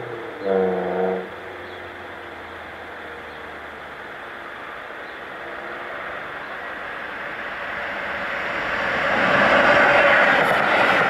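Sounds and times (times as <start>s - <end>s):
train running noise: 0.8s - 11.0s.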